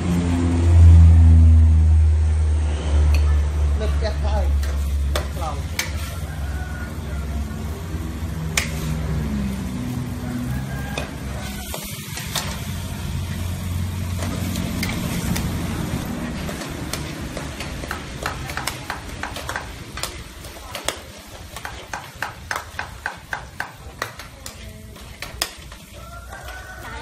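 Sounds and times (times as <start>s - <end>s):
vegetables sizzling in a pan: 4.2s - 27.0s.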